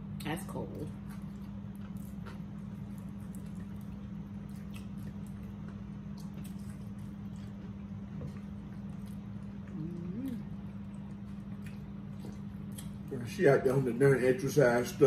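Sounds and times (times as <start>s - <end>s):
steady low hum: 0.0s - 15.0s
people chewing food: 0.2s - 15.0s.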